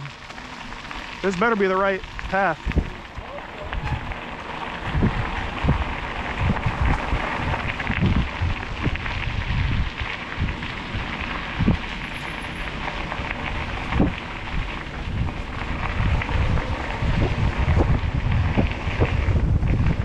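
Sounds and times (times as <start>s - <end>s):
bike tyres rolling on dirt: 0.0s - 20.0s
wind buffeting microphone: 1.0s - 20.0s.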